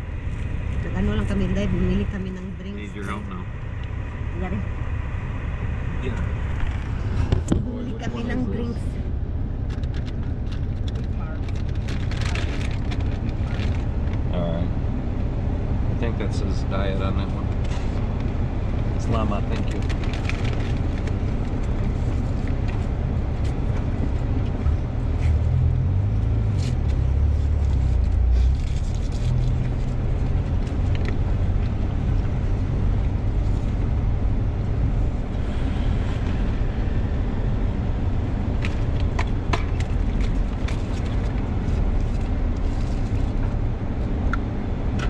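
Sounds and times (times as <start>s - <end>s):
road and engine rumble in car: 0.0s - 45.0s.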